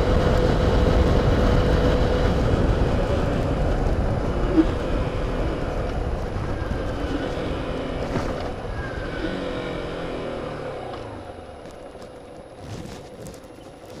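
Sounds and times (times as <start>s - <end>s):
motorcycle engine running: 0.0s - 14.0s
wind rumble on microphone: 0.0s - 14.0s.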